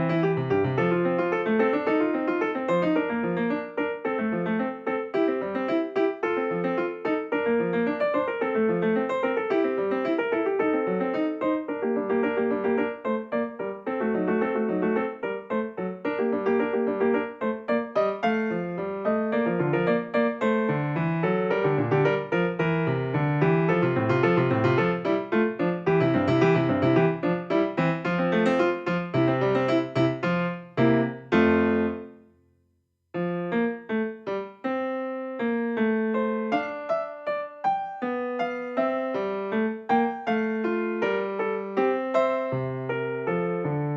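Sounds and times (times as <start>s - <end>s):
piano music: 0.0s - 32.3s, 33.2s - 43.9s.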